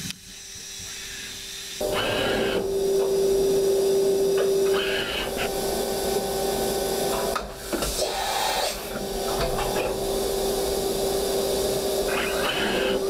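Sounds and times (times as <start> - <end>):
machine spindle tone: 1.6 - 13.0.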